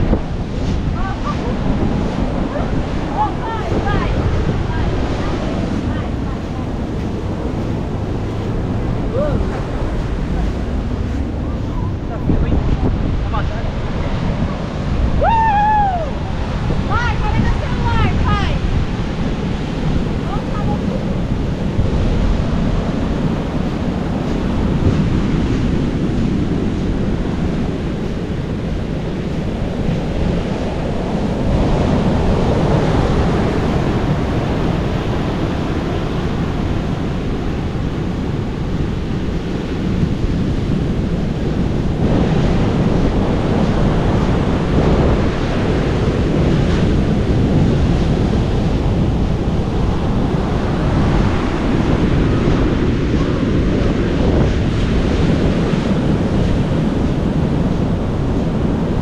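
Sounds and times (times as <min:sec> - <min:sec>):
surf breaking on rocky shore: 0:00.0 - 0:59.0
wind buffeting microphone: 0:00.0 - 0:59.0.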